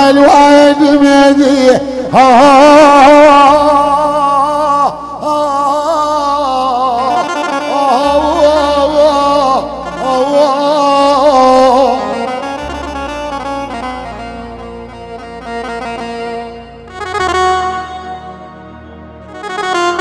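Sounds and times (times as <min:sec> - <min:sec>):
electronic keyboard: 0:00.0 - 0:20.0
man singing long wavering notes: 0:00.0 - 0:20.0.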